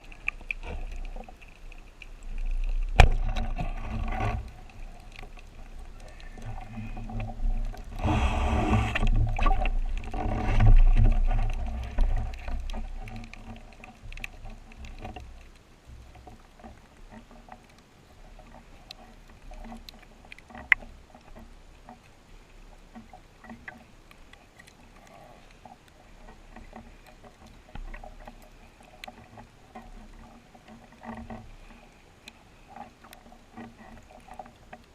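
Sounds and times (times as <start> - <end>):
faint clicks and crackles: 0.0 - 34.9
water splashing: 0.0 - 34.9.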